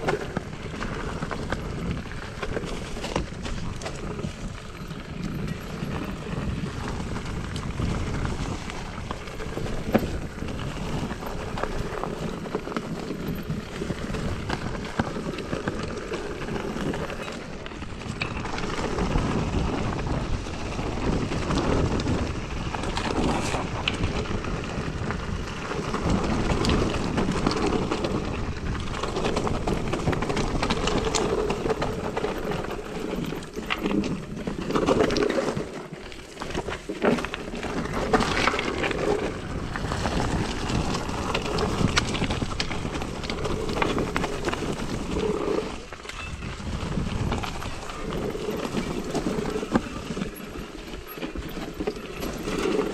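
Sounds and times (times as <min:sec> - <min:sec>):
bike rattling: 0:00.0 - 0:52.9
bike tyres rolling over dirt: 0:00.0 - 0:52.9
wind noise on microphone: 0:00.0 - 0:52.9.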